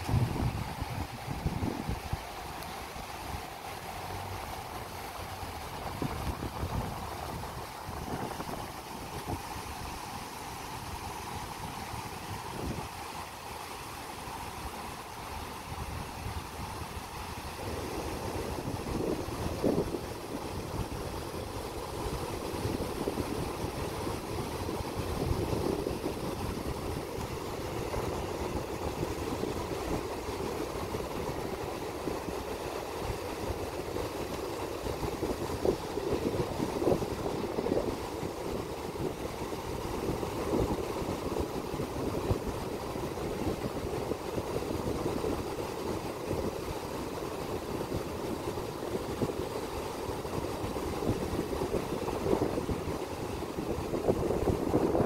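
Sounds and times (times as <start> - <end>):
wind buffeting microphone: 0.0 - 13.2, 15.3 - 55.0
surf washing onto sandy beach: 0.0 - 55.0.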